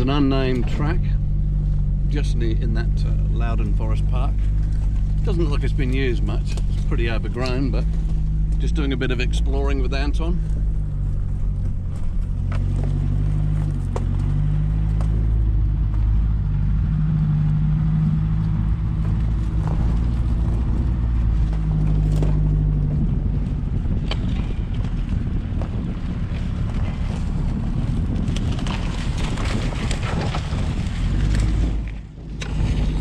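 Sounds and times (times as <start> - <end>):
engine running at low speed: 0.0 - 33.0.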